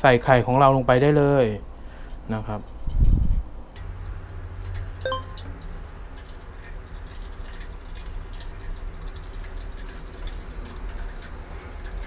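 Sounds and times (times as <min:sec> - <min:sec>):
oil crackling and popping in a pan: 0:02.1 - 0:12.0.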